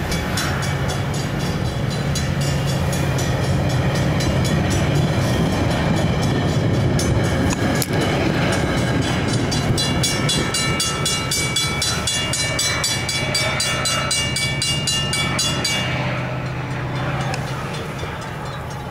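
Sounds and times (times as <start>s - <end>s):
fast metallic ringing: 0.0s - 18.9s
train cars rumbling on rails: 0.0s - 18.9s.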